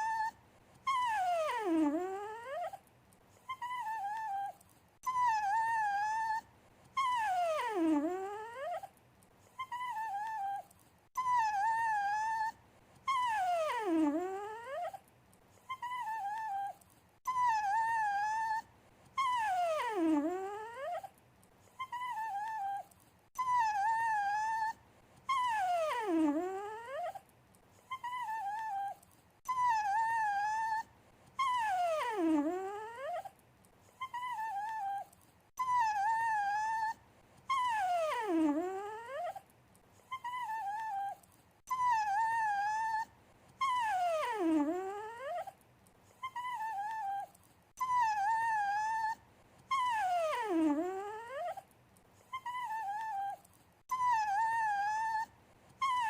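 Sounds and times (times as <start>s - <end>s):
dog whining and whimpering: 0.0s - 56.0s.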